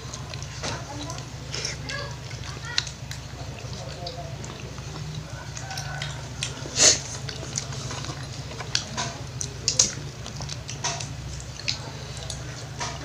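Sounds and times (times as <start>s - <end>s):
chewing and smacking: 0.0s - 13.0s
steady low hum: 0.0s - 13.0s.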